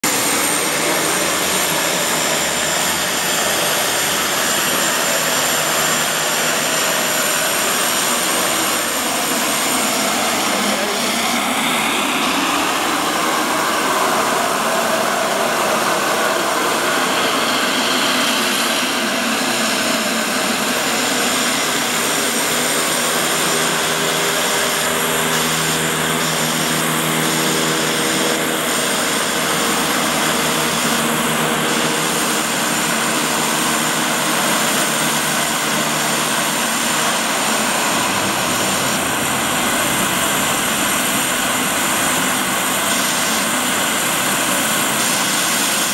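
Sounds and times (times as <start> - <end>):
propeller hum: 0.0 - 45.9
turboprop engines droning: 0.0 - 45.9.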